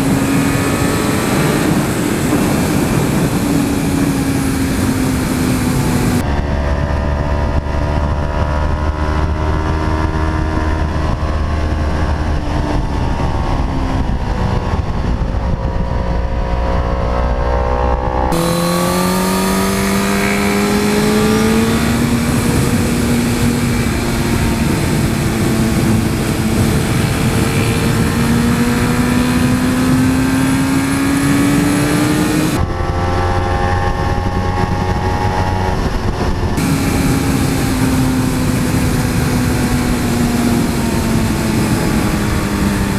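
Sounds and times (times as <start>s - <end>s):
motorcycle engine revving: 0.0s - 42.9s
wind noise: 0.0s - 42.9s.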